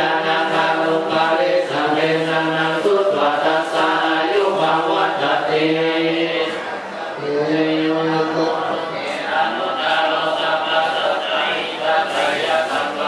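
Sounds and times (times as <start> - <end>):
group chanting prayers: 0.0 - 13.0.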